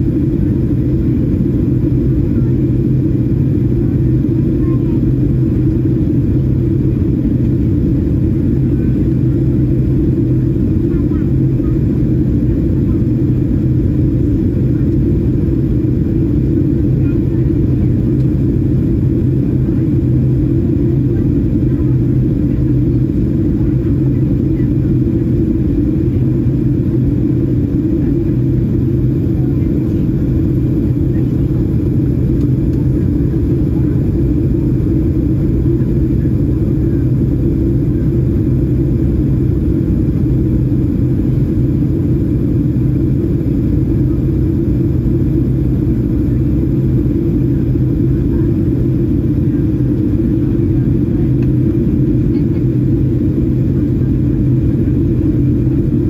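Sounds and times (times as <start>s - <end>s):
airliner cabin engine rumble: 0.0s - 56.0s
even hum: 0.0s - 56.0s.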